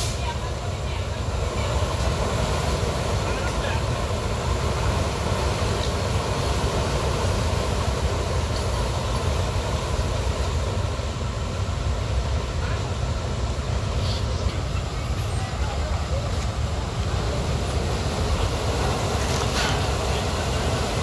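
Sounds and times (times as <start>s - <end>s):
diesel truck engines rumbling: 0.0s - 21.0s.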